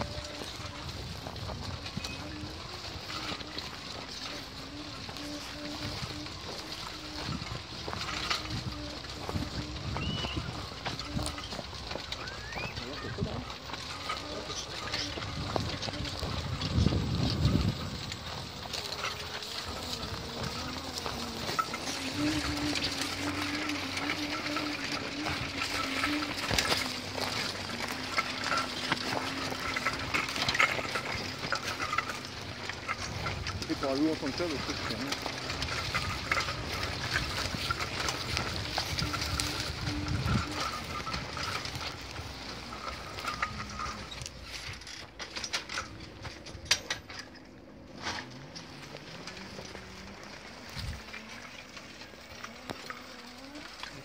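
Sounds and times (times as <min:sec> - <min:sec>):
electric motor humming: 0:00.0 - 0:44.2
scratchy crackle: 0:00.0 - 0:54.0
tool carrier rattling and clicking: 0:00.0 - 0:54.0.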